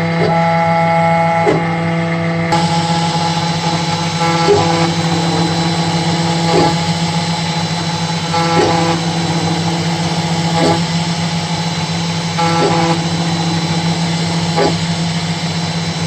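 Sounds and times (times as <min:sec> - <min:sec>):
spindle motor humming: 0:00.0 - 0:16.0
stepper motors whining: 0:00.0 - 0:16.0.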